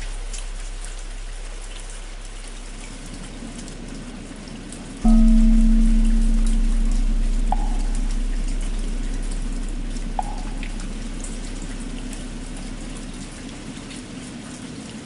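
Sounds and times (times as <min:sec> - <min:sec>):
deep hum of struck bell: 0:00.0 - 0:03.5, 0:05.0 - 0:14.0
steady rain falling: 0:00.0 - 0:15.0.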